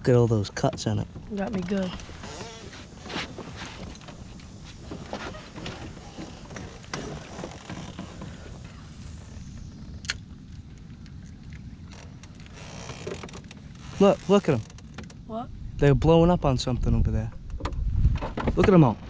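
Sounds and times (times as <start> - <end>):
low rumble on a boat: 0.0 - 19.0.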